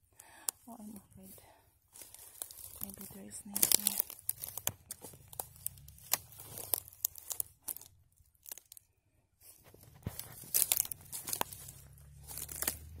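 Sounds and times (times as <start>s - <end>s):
footsteps crunching on dry twigs: 0.5s - 13.0s.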